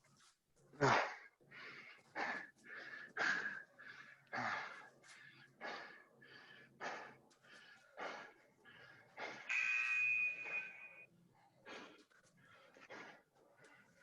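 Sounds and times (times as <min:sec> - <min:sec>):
heavy fast breathing: 0:00.8 - 0:09.7, 0:10.3 - 0:14.0.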